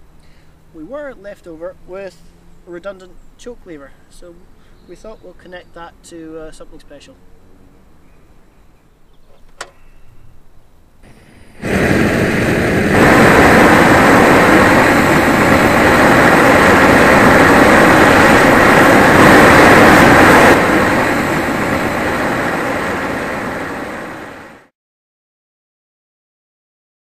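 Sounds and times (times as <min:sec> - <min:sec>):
mower exhaust rushing roar: 0:00.0 - 0:04.8, 0:05.9 - 0:24.7.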